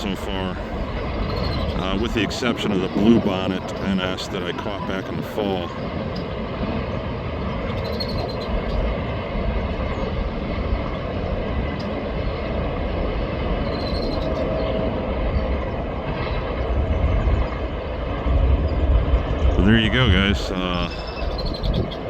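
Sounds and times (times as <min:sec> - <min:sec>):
train cars rumbling on rails: 0:00.0 - 0:22.0.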